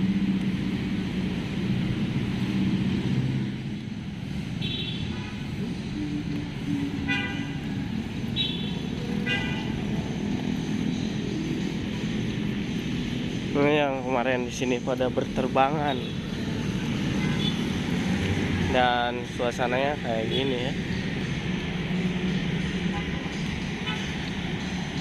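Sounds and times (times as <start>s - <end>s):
vehicle engines running: 0.0s - 25.0s.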